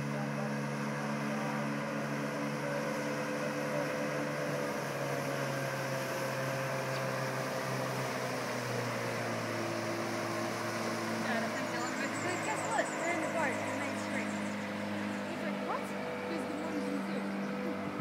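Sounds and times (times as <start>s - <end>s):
outboard motor droning: 0.0s - 18.0s.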